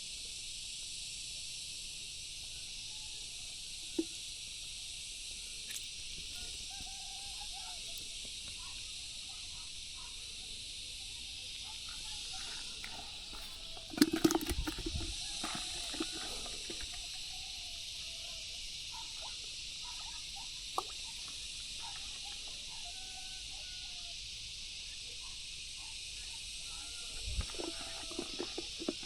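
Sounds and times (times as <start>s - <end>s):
high insect chorus: 0.0s - 29.0s.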